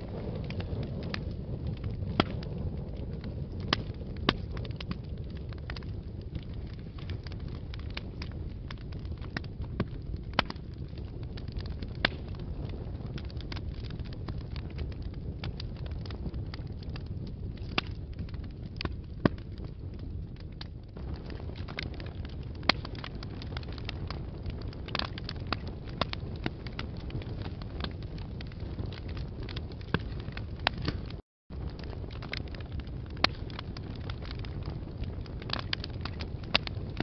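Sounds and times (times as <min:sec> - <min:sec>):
sharp snaps of fire: 0:00.0 - 0:37.0
wood fire crackling: 0:00.0 - 0:37.0.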